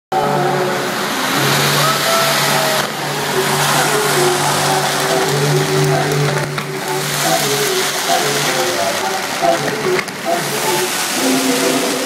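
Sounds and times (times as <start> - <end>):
fountain fireworks hissing: 0.2 - 12.0
water jets: 0.2 - 12.0.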